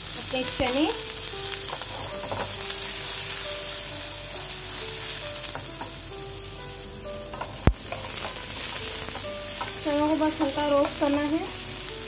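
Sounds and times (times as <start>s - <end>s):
chickpeas sizzling in hot oil: 0.0s - 12.0s.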